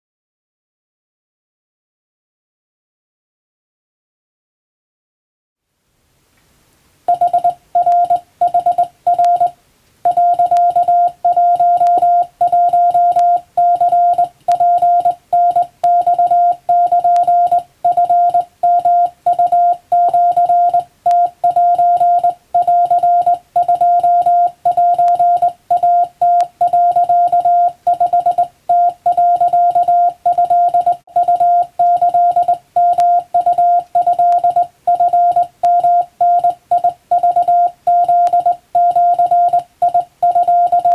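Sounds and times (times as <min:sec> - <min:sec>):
morse code beeps: 0:07.1 - 0:40.9.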